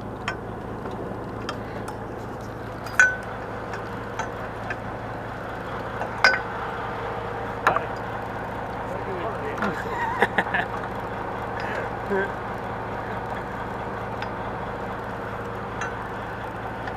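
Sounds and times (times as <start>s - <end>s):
boat low hum: 0.0s - 16.9s.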